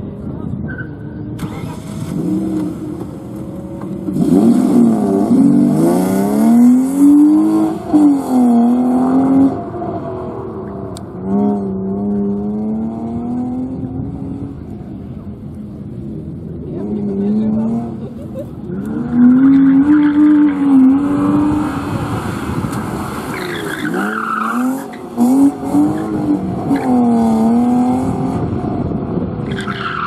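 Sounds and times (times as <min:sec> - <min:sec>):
car engine revving: 0:01.3 - 0:30.0.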